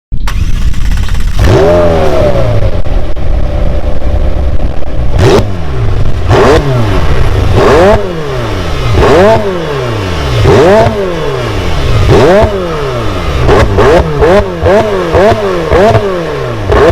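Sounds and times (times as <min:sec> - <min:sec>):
car engine idling and revving: 0:00.2 - 0:16.9.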